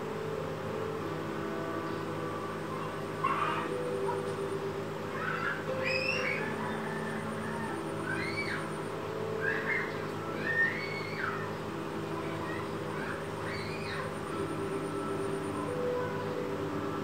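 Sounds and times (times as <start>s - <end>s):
low mechanical hum: 0.0s - 17.0s
birds chirping: 1.7s - 17.0s.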